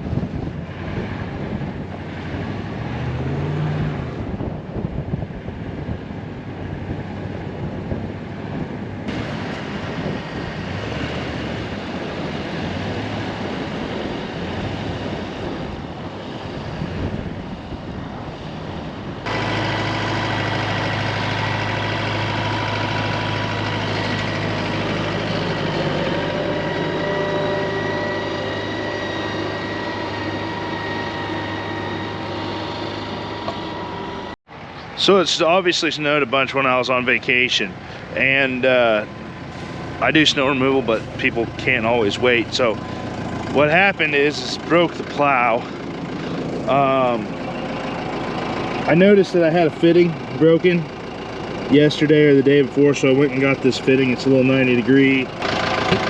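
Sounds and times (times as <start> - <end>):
tractor engine running: 0.0 - 3.5, 4.1 - 56.0
rushing noise: 0.0 - 49.7
constant whine: 0.0 - 56.0.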